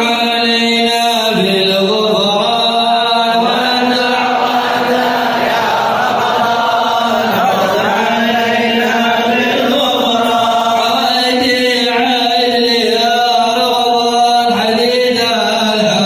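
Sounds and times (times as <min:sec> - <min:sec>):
men chanting a devotional hymn: 0:00.0 - 0:16.0.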